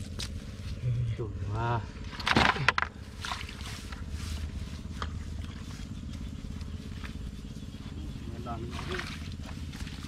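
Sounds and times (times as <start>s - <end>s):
small engine running steadily: 0.0s - 10.0s.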